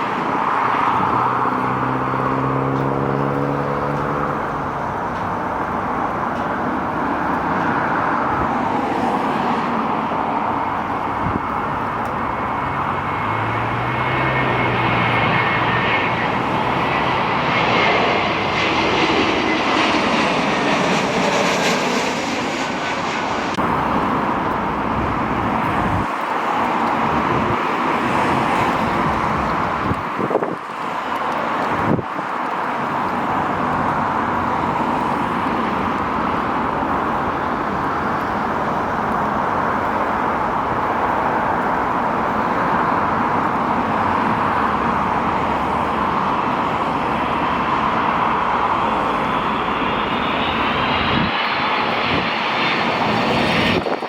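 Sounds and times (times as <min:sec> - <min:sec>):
turbine whine: 0:00.0 - 0:32.0, 0:33.5 - 0:54.0
jet engines roaring: 0:00.0 - 0:54.0.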